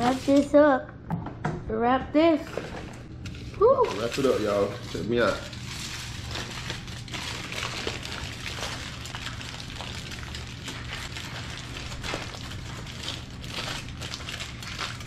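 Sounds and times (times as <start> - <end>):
aluminum foil crinkling: 0.0 - 0.6, 2.4 - 15.0.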